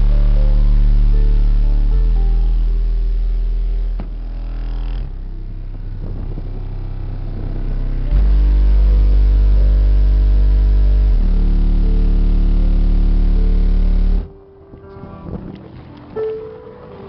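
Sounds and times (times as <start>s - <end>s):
bass-heavy music through subwoofers: 0.0s - 17.0s.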